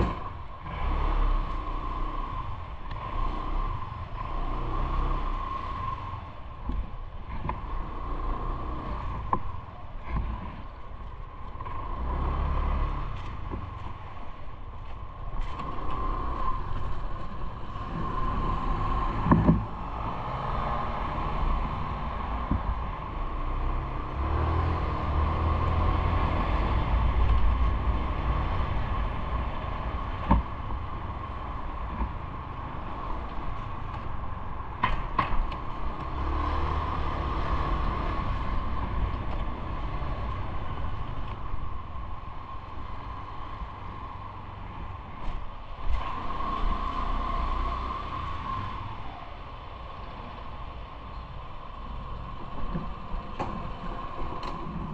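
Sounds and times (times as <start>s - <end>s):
road and traffic noise: 0.0s - 54.9s
wind rumbling on microphone: 0.0s - 54.9s.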